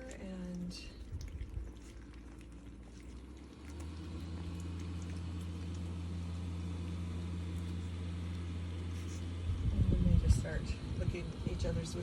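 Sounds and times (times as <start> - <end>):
low machine hum: 0.0 - 12.0
puppies lapping food: 0.0 - 12.0.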